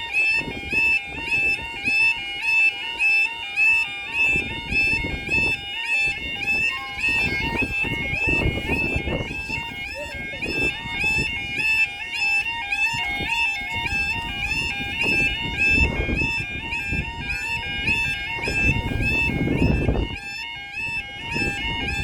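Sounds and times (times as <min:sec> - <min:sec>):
electronic two-tone alarm: 0:00.0 - 0:22.0.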